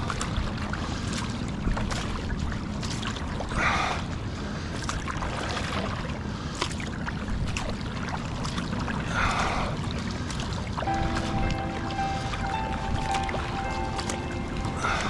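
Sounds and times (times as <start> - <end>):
paddle splashing: 0.0 - 15.0
water drips and trickles: 0.0 - 15.0
water swishing along kayak hull: 0.0 - 15.0.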